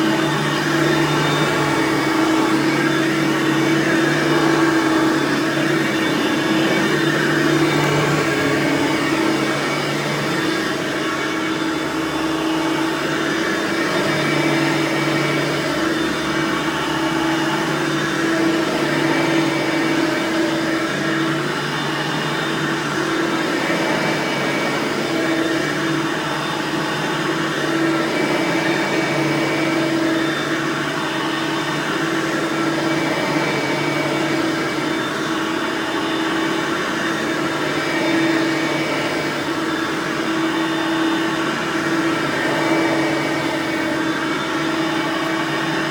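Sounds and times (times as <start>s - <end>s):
vacuum cleaner whirring: 0.0s - 45.9s.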